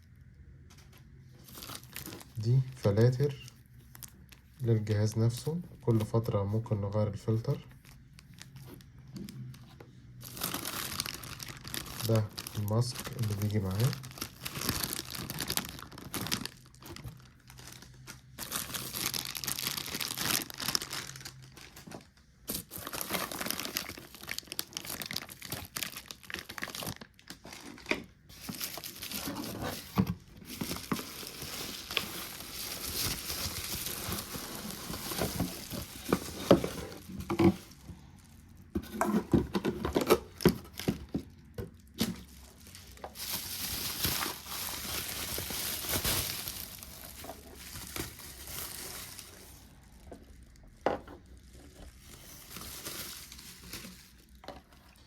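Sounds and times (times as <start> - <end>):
plastic packaging crinkling: 0.6 - 55.0.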